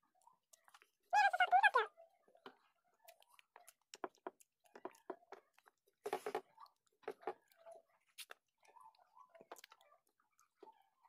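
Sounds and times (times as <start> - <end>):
chewing and biting food: 0.1 - 1.1, 2.3 - 11.0.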